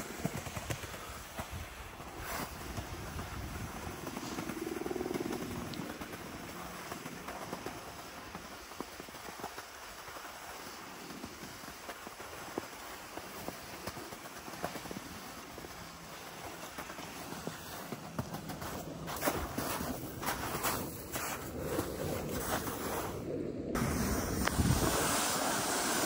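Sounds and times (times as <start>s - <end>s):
small clicks and crackles: 0.0s - 21.5s
snowboard sliding over snow: 0.0s - 26.0s.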